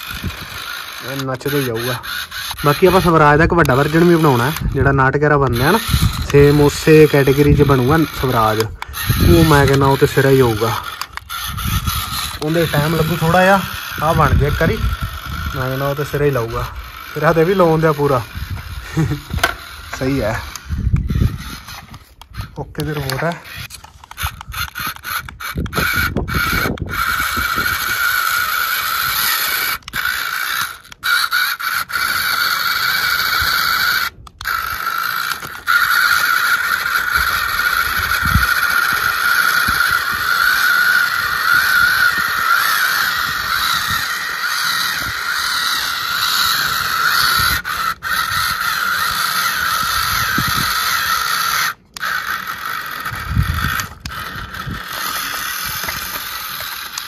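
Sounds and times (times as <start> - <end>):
electric motor whining: 0.0 - 57.0.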